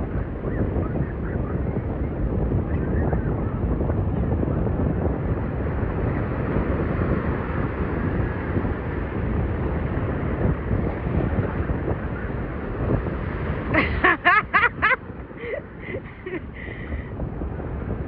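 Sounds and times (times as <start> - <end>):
ocean surf: 0.0 - 18.0
wind rumbling on microphone: 0.0 - 18.0.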